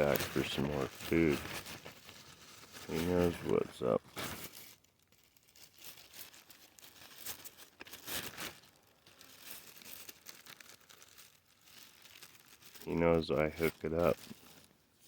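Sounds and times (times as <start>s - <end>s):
crinkling and rustling: 0.0s - 15.0s
soft crackles: 0.0s - 15.0s.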